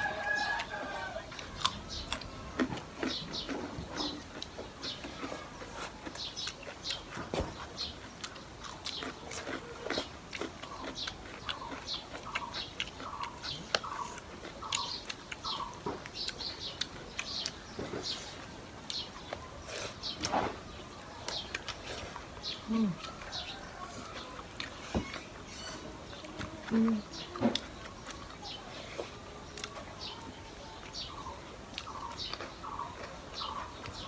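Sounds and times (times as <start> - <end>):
chewing and lip-smacking: 0.0 - 34.0.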